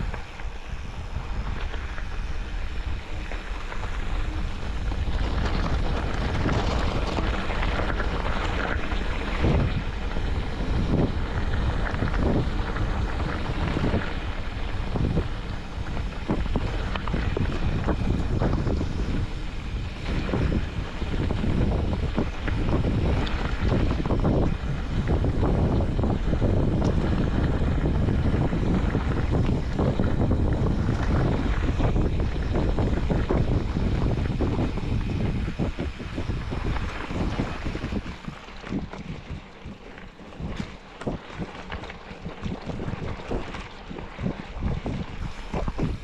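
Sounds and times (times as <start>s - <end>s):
vehicle and road noise rumble: 0.0s - 46.0s
wind buffeting microphone: 0.0s - 46.0s.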